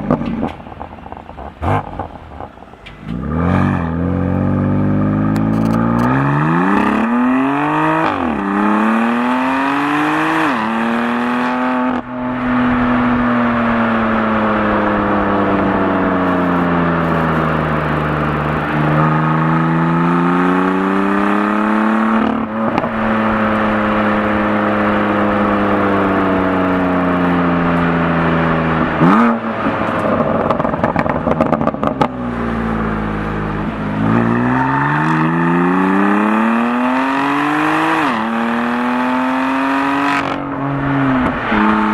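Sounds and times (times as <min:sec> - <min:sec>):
exhaust crackling: 0:00.0 - 0:09.8, 0:11.8 - 0:41.9
car engine accelerating: 0:00.0 - 0:41.9.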